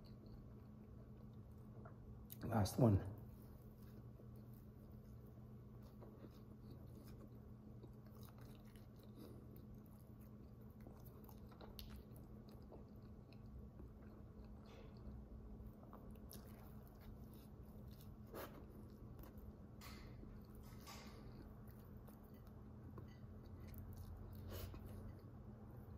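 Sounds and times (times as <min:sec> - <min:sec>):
faint chewing and mouth sounds: 0:00.0 - 0:25.9
low steady hum: 0:00.0 - 0:25.9.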